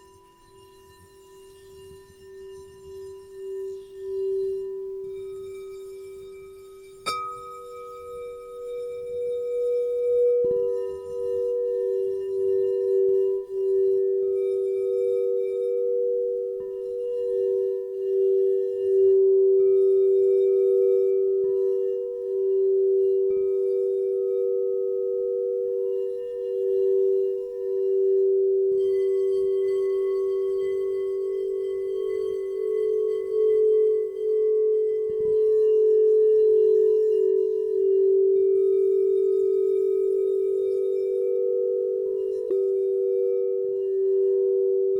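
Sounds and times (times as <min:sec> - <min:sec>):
singing bowls ringing: 0:00.0 - 0:44.9.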